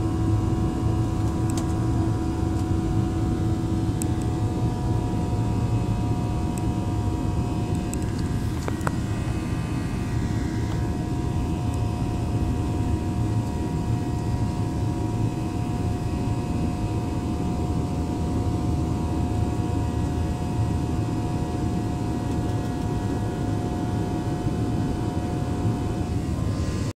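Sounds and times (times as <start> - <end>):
jet cabin engine rush: 0.0 - 26.9.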